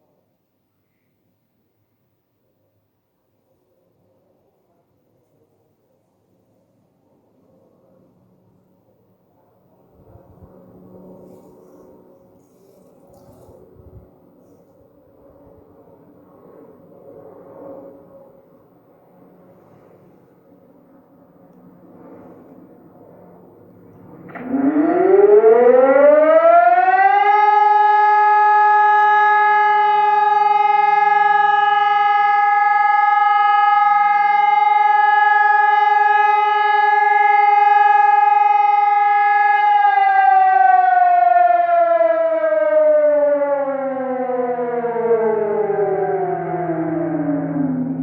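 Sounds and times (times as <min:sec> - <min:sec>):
civil defense siren wailing: 0:07.4 - 0:48.0.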